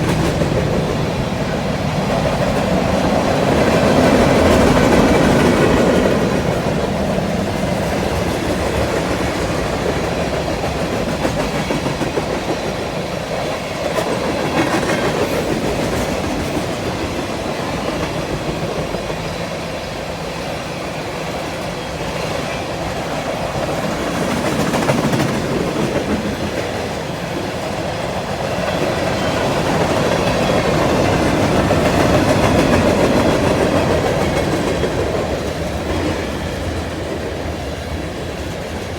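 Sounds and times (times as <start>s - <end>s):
freight train rumbling past: 0.0s - 38.9s
wheels clacking over rail joints: 0.0s - 38.9s.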